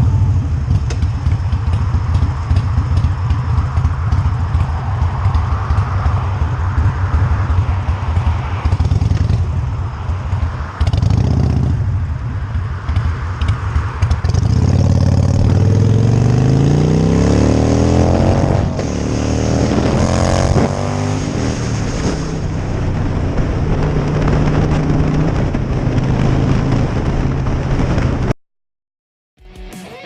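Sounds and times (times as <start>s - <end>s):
motorcycle engine accelerating: 0.0s - 28.4s.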